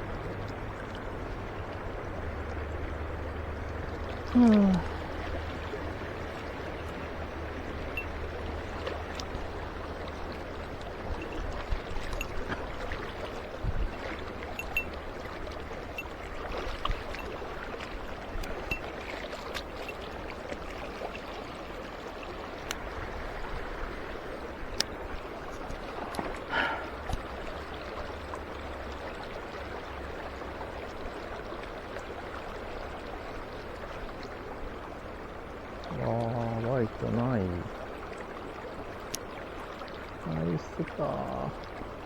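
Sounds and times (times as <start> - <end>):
stream water running: 0.0 - 42.0.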